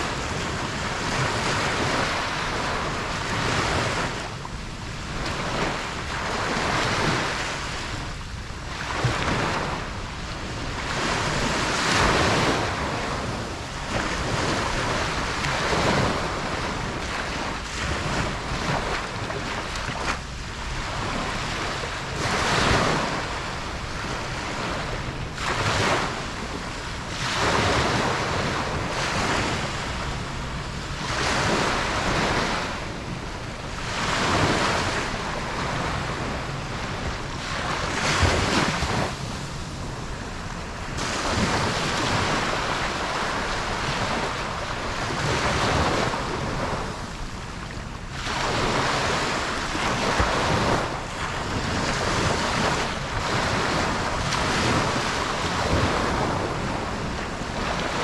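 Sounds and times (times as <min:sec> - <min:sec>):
ocean waves breaking: 0:00.0 - 0:58.0
wind noise on microphone: 0:00.0 - 0:58.0.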